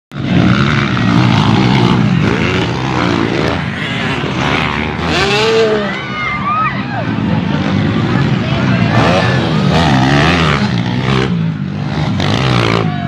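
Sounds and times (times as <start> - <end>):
dirt-bike engines revving: 0.1 - 13.0.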